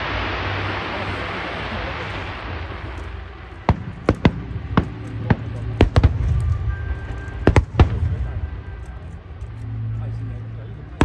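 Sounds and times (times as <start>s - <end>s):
fireworks bangs: 0.0s - 9.4s
low rumble: 0.0s - 11.0s.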